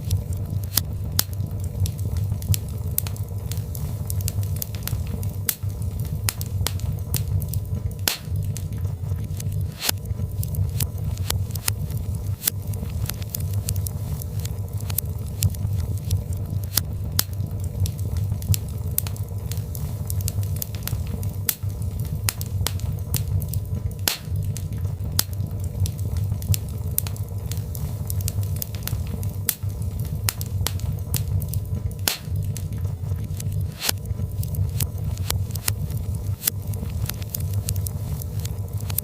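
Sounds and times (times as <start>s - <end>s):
fire crackling and popping: 0.0s - 39.0s
fire rumbling: 0.0s - 39.0s.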